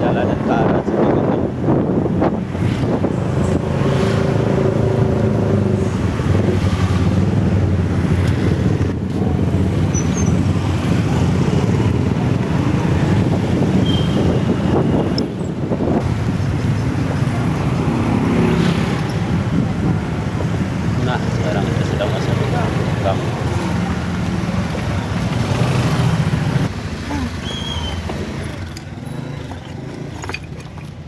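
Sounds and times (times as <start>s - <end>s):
wind noise: 0.0s - 26.7s
road noise: 0.0s - 31.0s.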